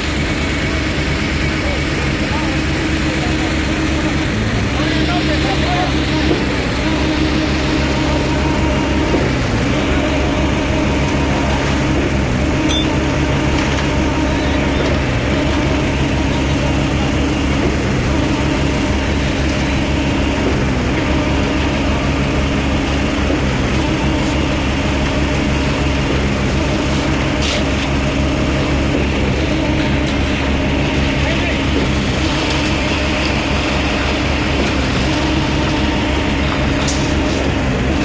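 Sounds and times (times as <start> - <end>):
concrete mixer drone: 0.0 - 38.0.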